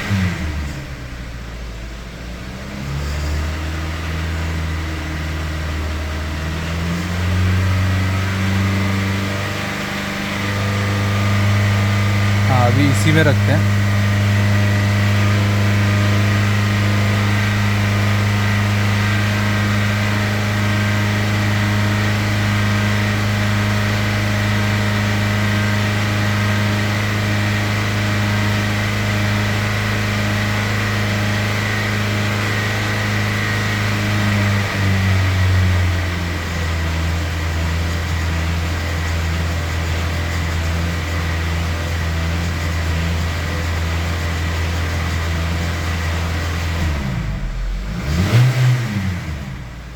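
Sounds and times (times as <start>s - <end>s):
car engine at high revs: 0.0s - 49.9s.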